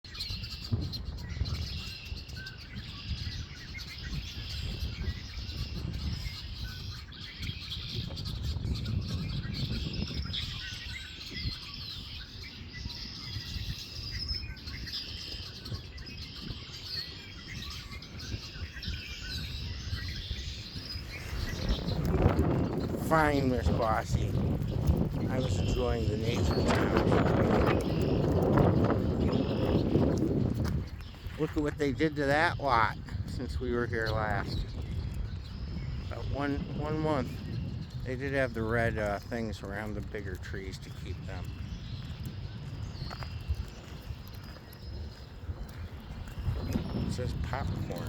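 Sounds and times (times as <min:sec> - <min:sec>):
small birds chirping and singing: 0:00.0 - 0:48.0.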